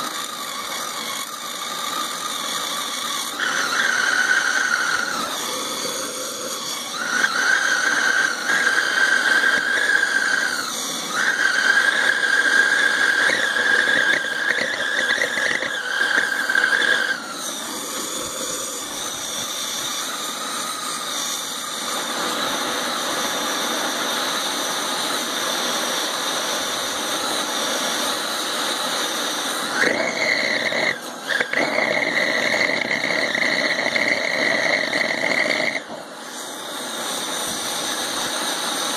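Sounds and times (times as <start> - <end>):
high-pitched burner whistle: 0.0 - 38.9
rushing hiss: 0.0 - 38.9.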